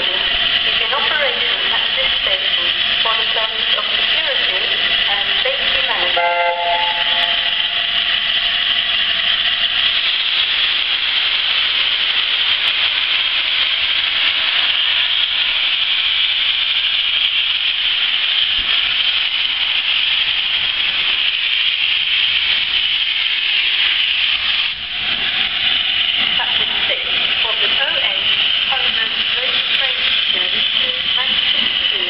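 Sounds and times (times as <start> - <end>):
steam locomotive hissing steam: 0.0 - 32.0.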